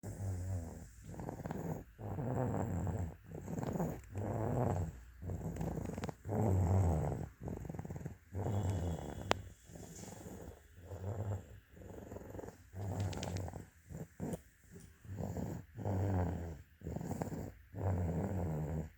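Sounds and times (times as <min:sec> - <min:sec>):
snoring: 0:00.0 - 0:18.9.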